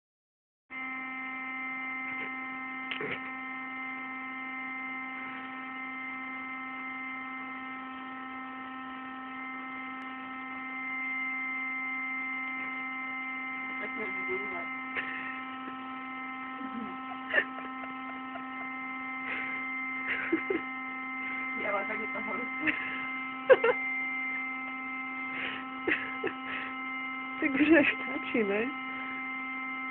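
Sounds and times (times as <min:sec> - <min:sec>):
electric air pump droning: 0:00.7 - 0:29.9.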